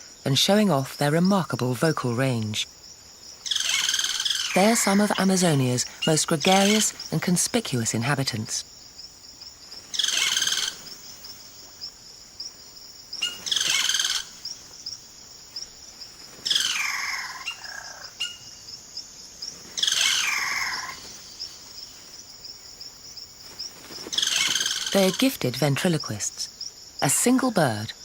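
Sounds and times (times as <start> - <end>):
pulsing insect chirp: 0.0 - 28.0
birds calling: 1.3 - 27.8.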